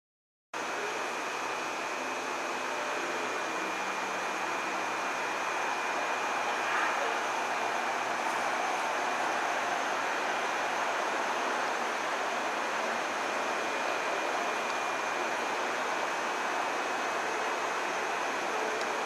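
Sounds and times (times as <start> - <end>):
faint high whine: 0.6 - 19.0
steady hissing noise: 0.6 - 19.0.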